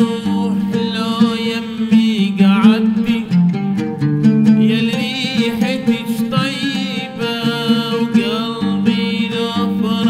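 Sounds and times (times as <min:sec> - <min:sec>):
man singing: 0:00.0 - 0:03.6, 0:04.4 - 0:10.0
plucked oud: 0:00.0 - 0:10.0.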